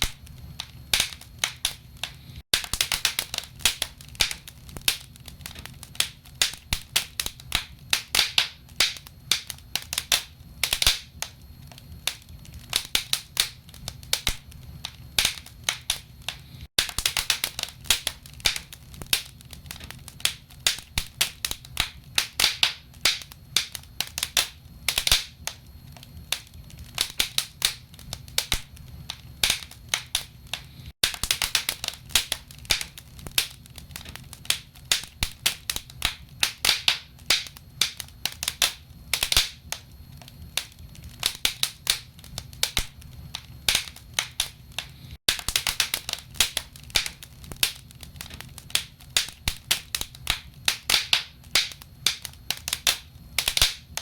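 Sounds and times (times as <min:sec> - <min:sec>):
logs crackling and popping: 0:00.0 - 0:54.0
low fire rumble: 0:00.0 - 0:54.0.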